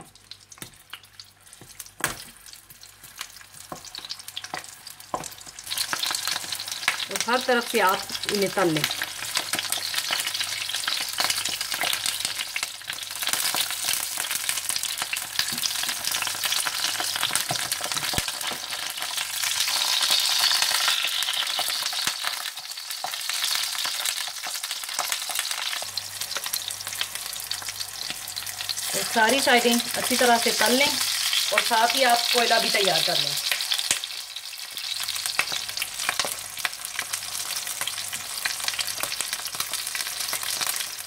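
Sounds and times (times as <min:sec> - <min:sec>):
peppers sizzling in hot oil: 0:00.0 - 0:41.0.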